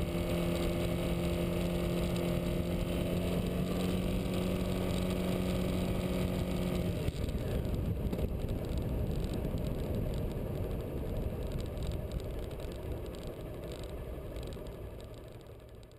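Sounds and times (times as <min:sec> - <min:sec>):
motorcycle engine: 0:00.0 - 0:15.9.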